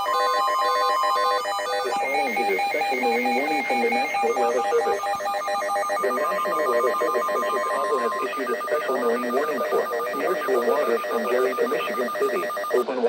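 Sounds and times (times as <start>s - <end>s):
electronic data chirps: 0.0s - 12.8s
steady alert tone: 1.8s - 12.8s.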